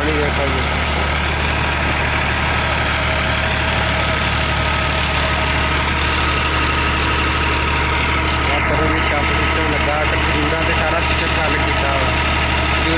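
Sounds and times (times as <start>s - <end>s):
pump whining: 0.0s - 12.9s
tractor diesel engine running: 0.0s - 12.9s
water gushing into a tank: 0.0s - 12.9s.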